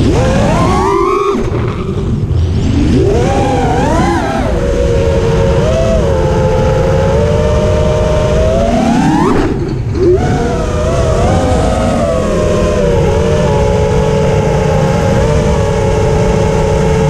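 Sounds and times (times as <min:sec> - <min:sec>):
low rushing noise: 0:00.0 - 0:17.0
quadcopter motors whining: 0:00.0 - 0:17.0.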